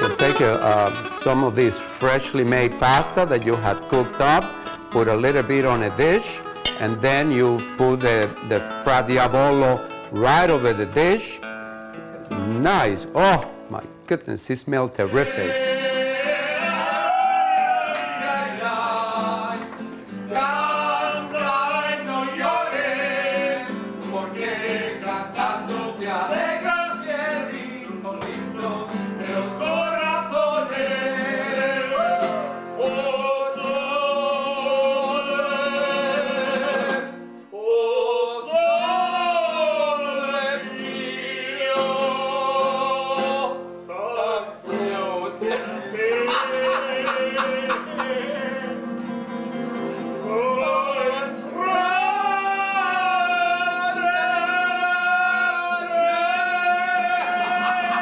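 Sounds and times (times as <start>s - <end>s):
two men singing: 0.0s - 11.2s, 15.0s - 49.2s, 50.0s - 58.0s
strummed classical guitar: 0.0s - 37.5s, 38.5s - 58.0s.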